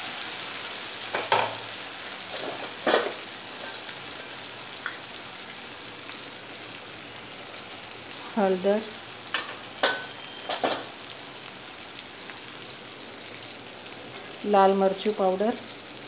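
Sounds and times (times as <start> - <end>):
tomatoes sizzling in oil: 0.0 - 16.0.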